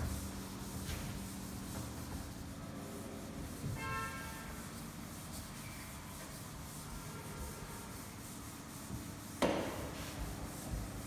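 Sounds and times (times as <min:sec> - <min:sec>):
duster rubbing blackboard: 0:00.0 - 0:11.0.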